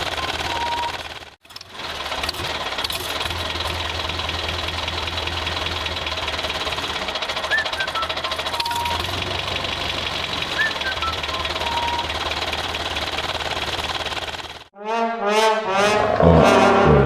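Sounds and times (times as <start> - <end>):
diesel tractor engine knocking: 0.0 - 14.7.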